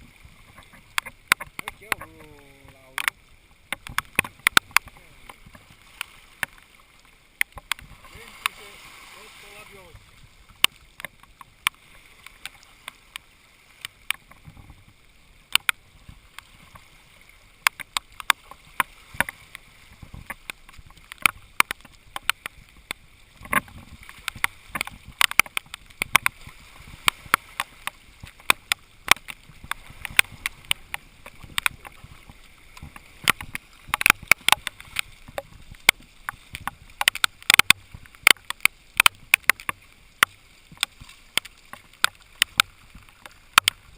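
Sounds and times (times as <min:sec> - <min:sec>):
raindrops ticking on microphone: 0:00.0 - 0:43.9.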